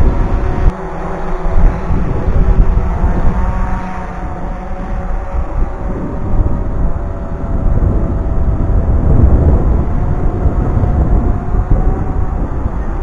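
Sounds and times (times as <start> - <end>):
drone propellers humming: 0.0 - 13.0
wind buffeting microphone: 0.0 - 13.0.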